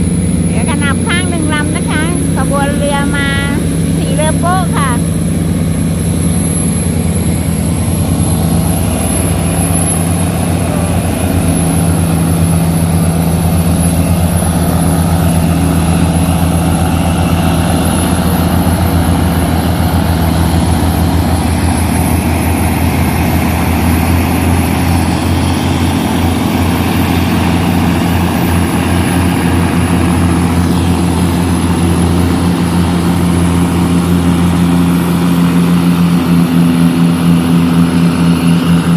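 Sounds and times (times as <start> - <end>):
tugboat diesel engines droning: 0.0 - 38.9.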